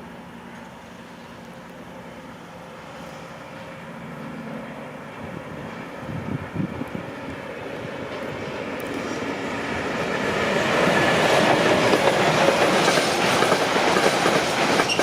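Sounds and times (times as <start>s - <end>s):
train droning hum: 0.0s - 15.0s.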